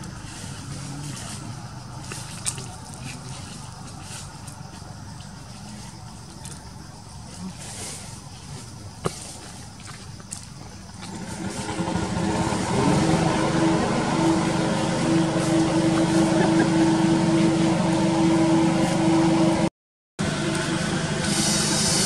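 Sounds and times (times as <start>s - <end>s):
motor engine running: 0.0s - 5.6s, 9.2s - 22.0s.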